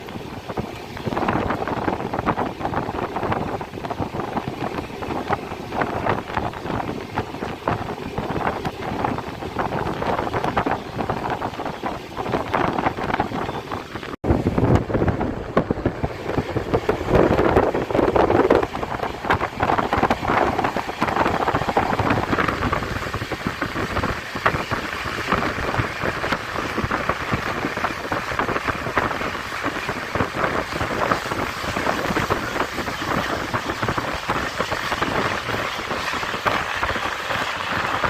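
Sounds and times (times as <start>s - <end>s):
train wheel and rail rattle: 0.0s - 38.0s
wind buffeting microphone: 0.0s - 38.0s.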